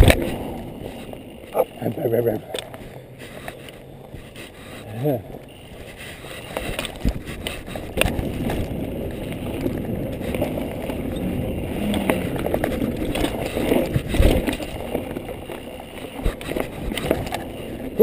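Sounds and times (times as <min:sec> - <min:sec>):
bike rattling over bumps: 0:00.0 - 0:18.0
bike tyres rumbling on dirt: 0:00.0 - 0:18.0.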